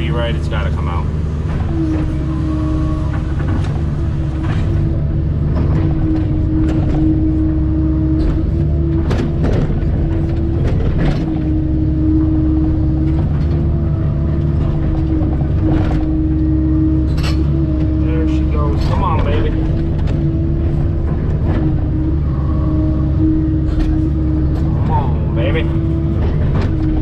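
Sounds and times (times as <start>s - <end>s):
excavator running under load: 0.0s - 27.0s
steady machine whine: 0.0s - 27.0s.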